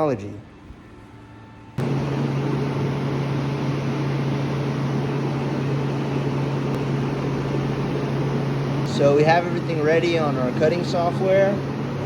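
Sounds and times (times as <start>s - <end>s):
large fan humming and rushing: 0.0s - 12.0s.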